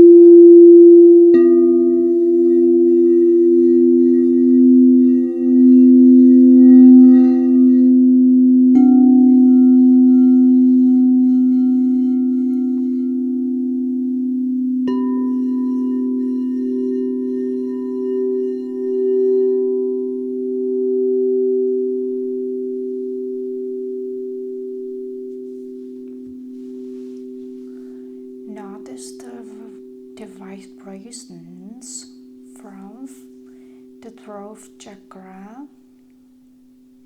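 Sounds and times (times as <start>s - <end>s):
singing bowls ringing: 0.0s - 30.8s.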